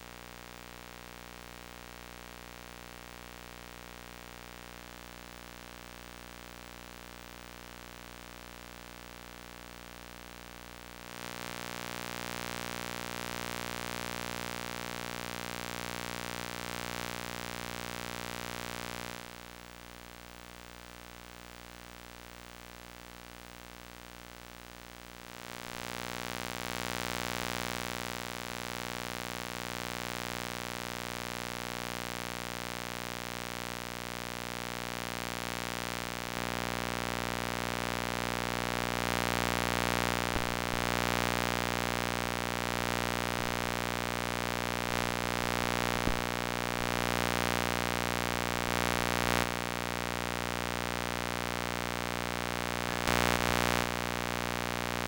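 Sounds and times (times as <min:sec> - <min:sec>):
electrical hum and static hiss: 0:01.4 - 0:55.0.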